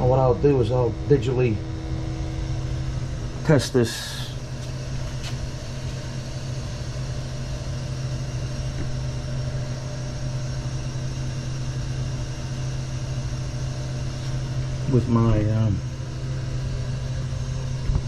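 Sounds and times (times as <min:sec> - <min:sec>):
water heater humming: 0:00.0 - 0:18.0.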